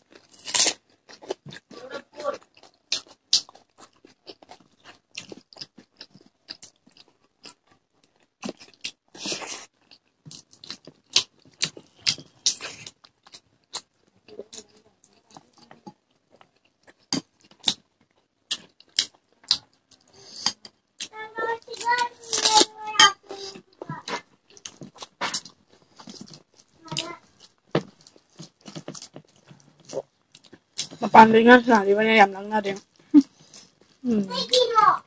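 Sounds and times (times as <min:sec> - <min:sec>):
food crunch: 0:00.0 - 0:31.1.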